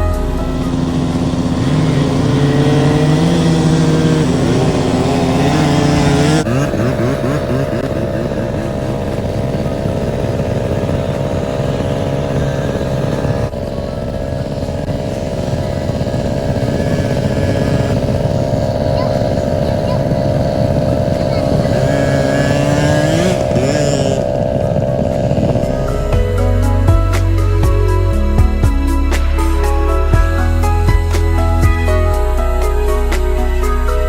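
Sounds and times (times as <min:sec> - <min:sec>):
quad bike engines revving: 0:00.0 - 0:34.0.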